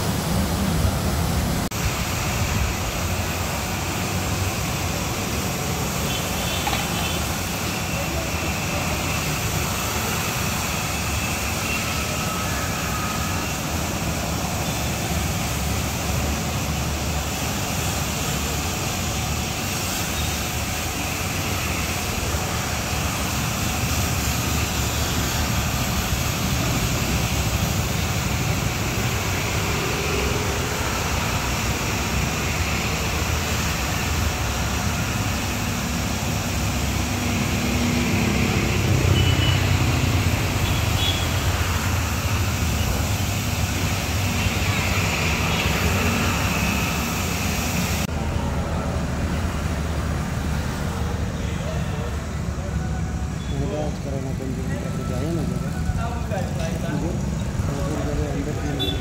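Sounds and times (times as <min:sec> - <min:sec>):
water spray hissing: 0:00.0 - 0:54.6, 0:55.2 - 0:59.0
car-wash motor rumble: 0:00.0 - 0:59.0.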